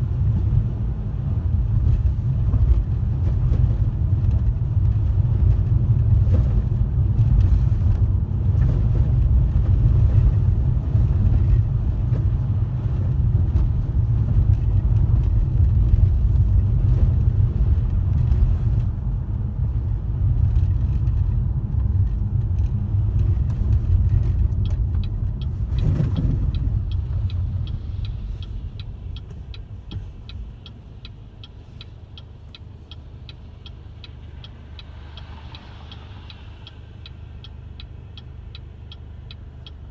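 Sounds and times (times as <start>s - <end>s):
turn signal ticking: 0.0s - 39.9s
tyre and road rumble: 0.0s - 39.9s.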